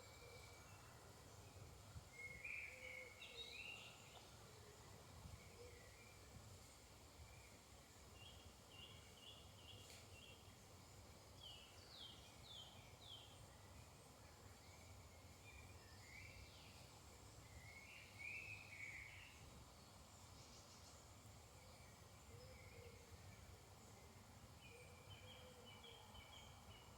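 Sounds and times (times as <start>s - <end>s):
faint birdsong: 0.0s - 26.9s.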